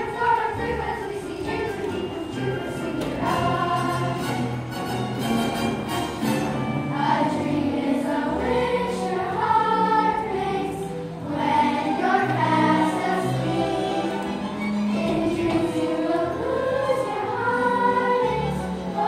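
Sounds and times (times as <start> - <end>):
children singing in chorus: 0.0 - 4.5, 6.8 - 19.0
musical accompaniment: 0.0 - 19.0.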